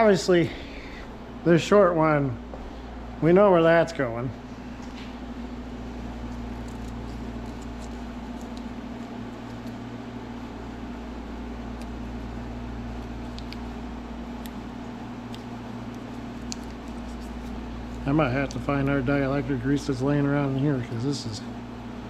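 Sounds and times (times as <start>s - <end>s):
mechanical hum with low drone: 0.0s - 22.0s.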